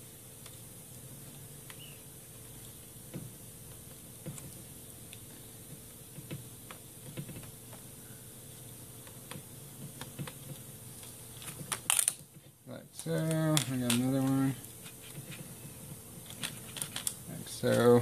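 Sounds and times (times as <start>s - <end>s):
faint hum and hiss: 0.0s - 18.0s.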